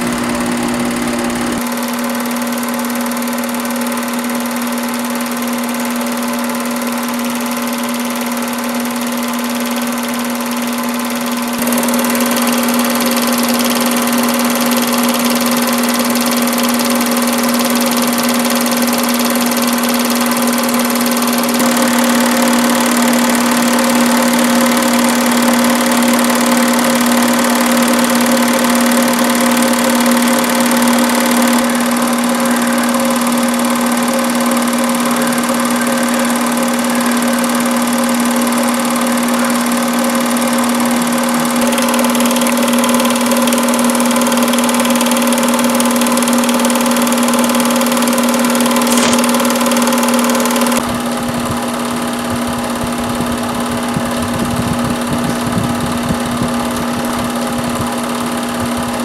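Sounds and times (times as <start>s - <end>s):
film projector running: 0.0s - 59.0s.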